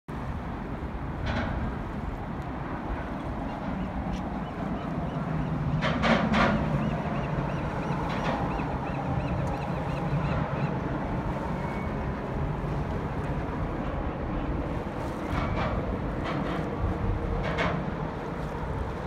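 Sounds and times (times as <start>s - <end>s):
traffic rumble on bridge: 0.1s - 19.0s
water splashing on boat: 0.1s - 19.0s
wind: 0.1s - 19.0s.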